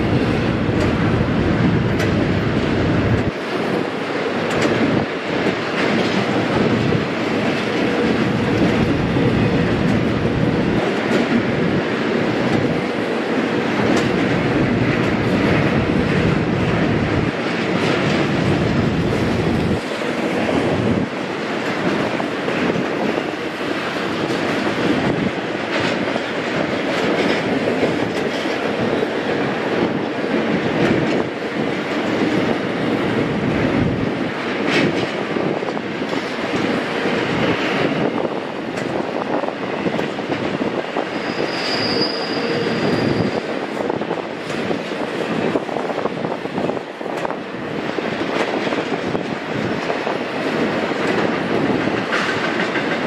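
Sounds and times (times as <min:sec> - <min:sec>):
steel wheels rolling on rail: 0:00.0 - 0:53.0.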